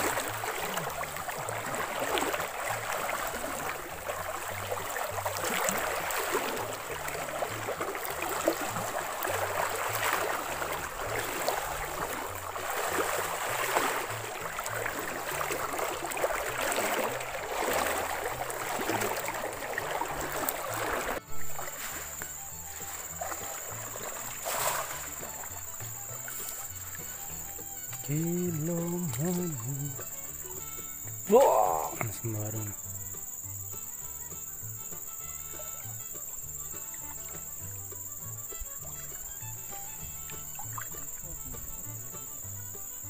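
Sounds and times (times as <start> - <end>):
water sloshing and splashing: 0.0 - 43.0
background music with bass line: 3.7 - 19.6, 20.2 - 43.0.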